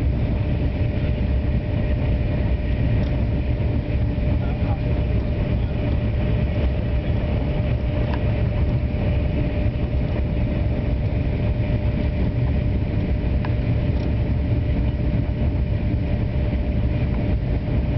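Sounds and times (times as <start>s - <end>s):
high-speed train rumbling: 0.0s - 17.9s.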